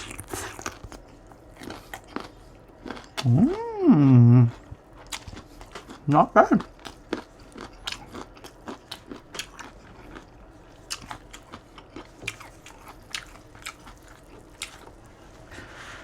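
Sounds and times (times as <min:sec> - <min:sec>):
chewing crunches: 0:00.0 - 0:03.7, 0:04.4 - 0:15.1.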